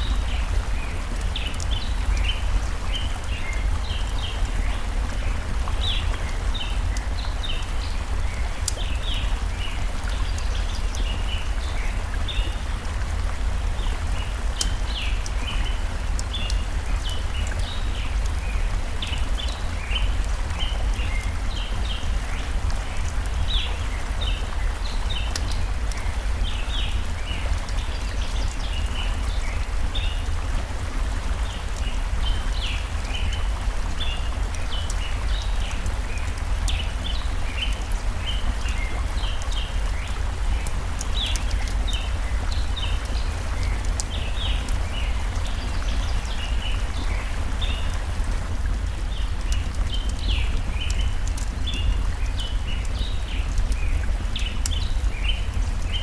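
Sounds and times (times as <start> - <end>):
campfire crackle: 0.0 - 56.0
small birds chirping: 0.0 - 56.0
stream rushing: 0.0 - 56.0.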